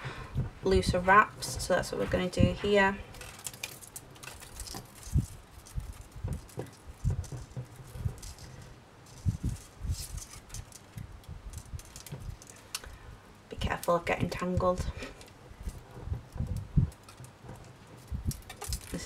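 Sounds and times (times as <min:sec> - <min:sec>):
wire tapping and rattling: 0:00.1 - 0:19.0.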